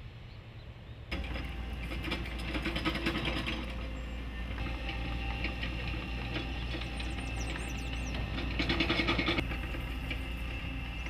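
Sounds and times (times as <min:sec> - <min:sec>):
low engine hum: 0:00.0 - 0:11.0
machinery clattering and ticking: 0:01.1 - 0:11.0.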